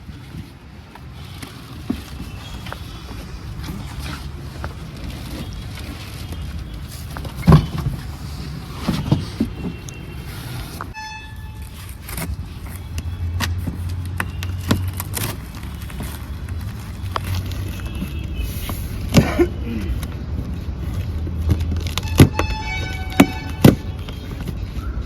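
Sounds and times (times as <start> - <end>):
street noise: 0.0 - 25.0.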